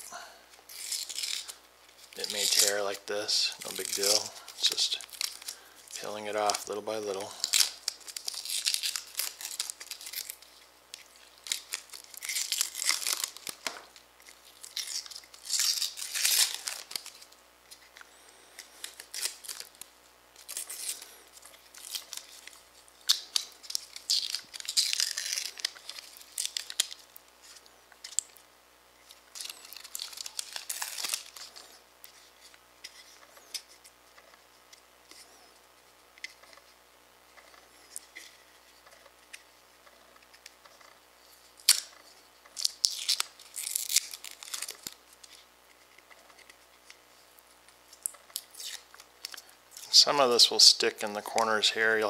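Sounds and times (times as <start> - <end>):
paper masking ripping: 0.7 - 17.8, 18.6 - 28.4, 29.0 - 34.4, 37.3 - 45.4, 47.9 - 49.4
paper crinkling: 0.7 - 28.4, 29.0 - 52.0.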